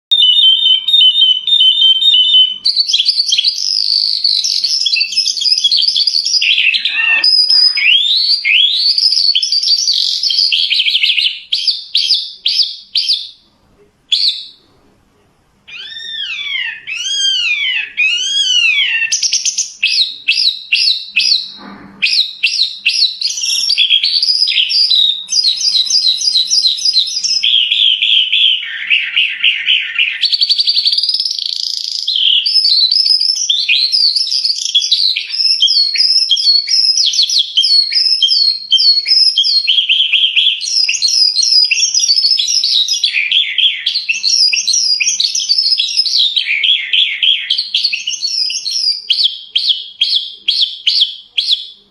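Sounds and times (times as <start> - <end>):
skylark singing: 0.1 - 13.4, 22.2 - 51.8.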